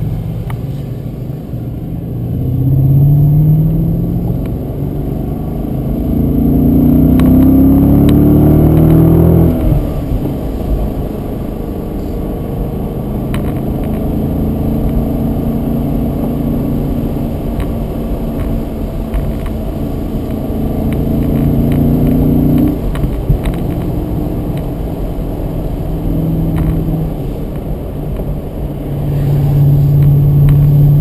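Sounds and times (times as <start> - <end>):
car engine heard from cabin: 0.0 - 31.0.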